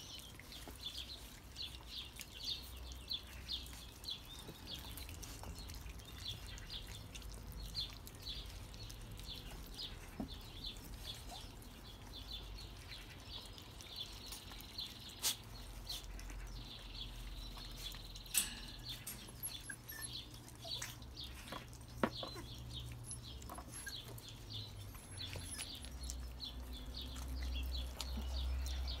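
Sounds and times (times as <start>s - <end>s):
puppies chewing and smacking: 0.0s - 29.0s.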